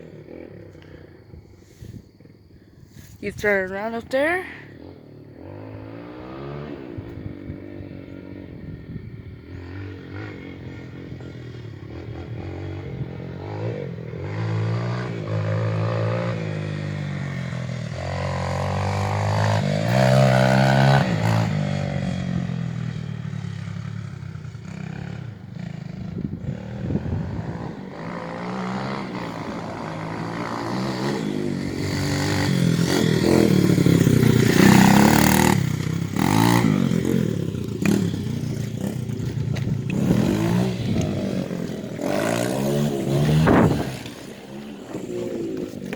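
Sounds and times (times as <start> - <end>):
dirt bike engine revving: 3.2 - 8.9, 9.5 - 45.9.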